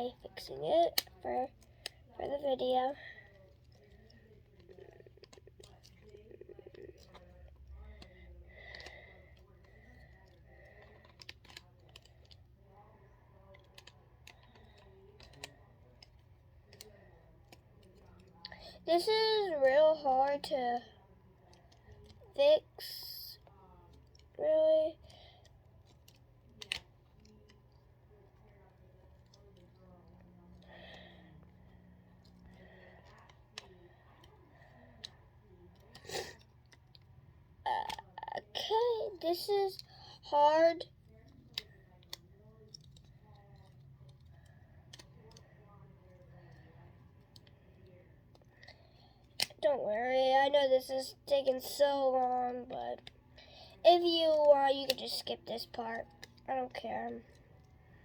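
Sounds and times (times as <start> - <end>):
plastic fidget puzzle clicking: 0.0 - 58.0.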